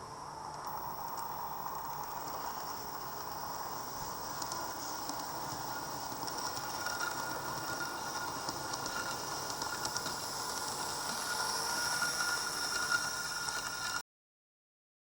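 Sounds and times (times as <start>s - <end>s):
faint high whine: 0.0s - 14.0s
train running on track: 0.6s - 14.0s.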